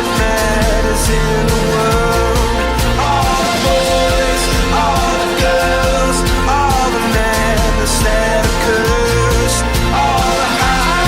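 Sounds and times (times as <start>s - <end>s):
rock or pop music: 0.0s - 11.0s.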